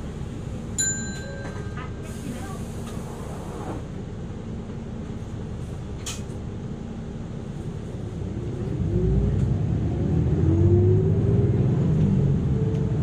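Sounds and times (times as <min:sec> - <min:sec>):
bus engine rumble: 0:00.0 - 0:13.0
bus whine pulling away: 0:00.0 - 0:13.0.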